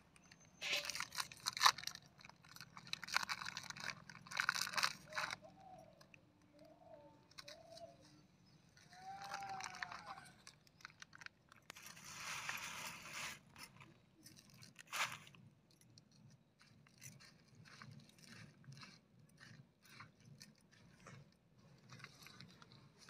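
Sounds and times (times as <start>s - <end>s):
crinkly rustle: 0.2s - 23.0s
crunching and scraping snack: 0.2s - 23.0s.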